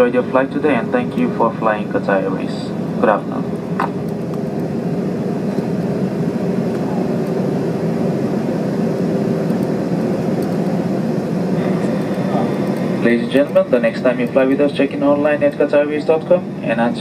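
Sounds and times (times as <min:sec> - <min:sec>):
air conditioning: 0:00.0 - 0:17.0
jet engines idling: 0:00.0 - 0:17.0.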